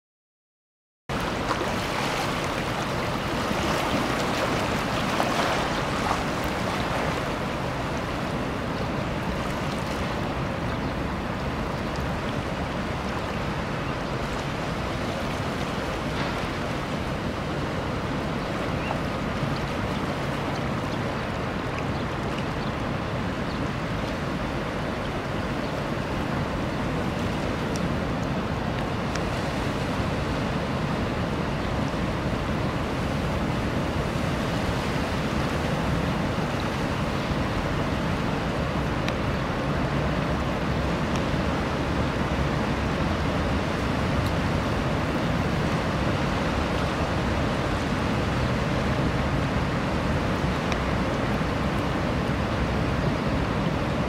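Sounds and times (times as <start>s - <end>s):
sea surf rushing: 1.1s - 54.0s.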